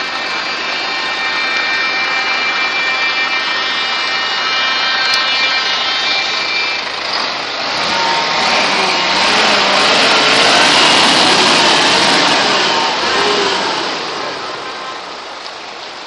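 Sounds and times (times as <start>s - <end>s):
high-pitched whine: 0.0s - 16.0s
trucks driving past: 0.0s - 16.0s.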